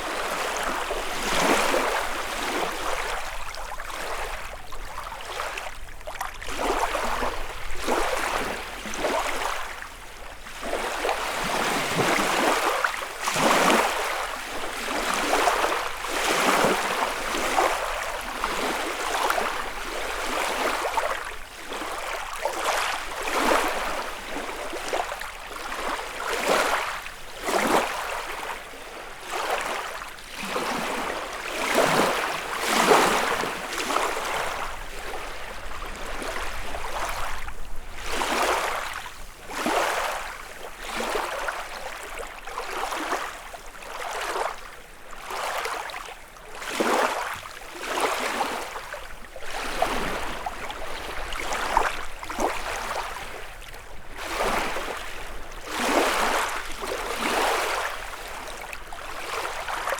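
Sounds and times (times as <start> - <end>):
lake waves lapping on shore: 0.0 - 59.9.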